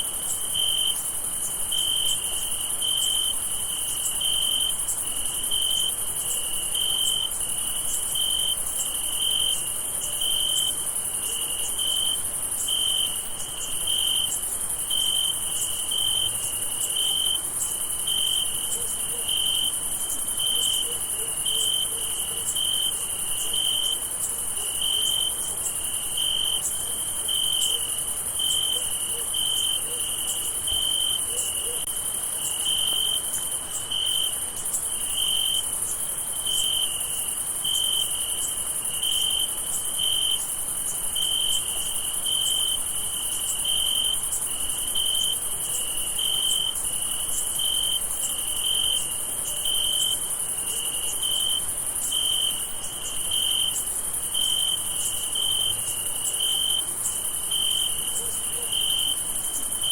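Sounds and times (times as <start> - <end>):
crickets trilling: 0.0 - 59.9
low cricket chirping: 0.0 - 59.9.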